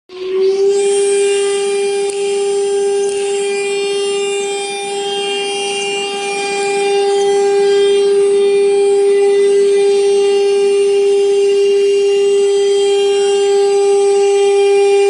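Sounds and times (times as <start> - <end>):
router spindle high whine: 0.1 - 15.0.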